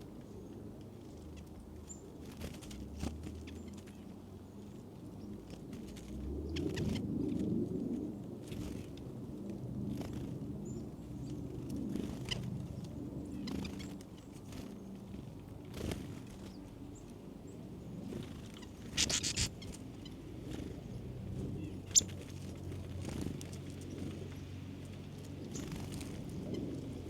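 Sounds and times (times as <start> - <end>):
small birds chirping: 0.0 - 7.5, 9.9 - 27.0.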